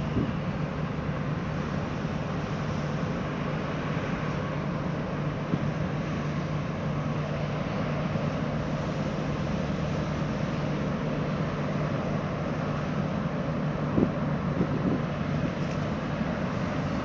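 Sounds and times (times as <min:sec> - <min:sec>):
ship engines running: 0:00.0 - 0:17.0.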